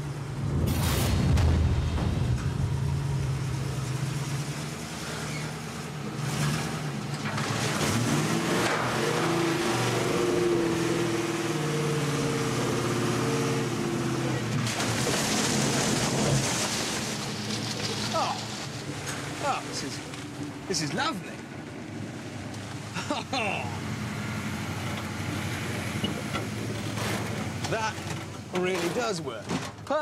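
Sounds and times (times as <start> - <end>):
engine running at low speed: 0.0 - 28.6
water churning and splashing: 0.4 - 29.4.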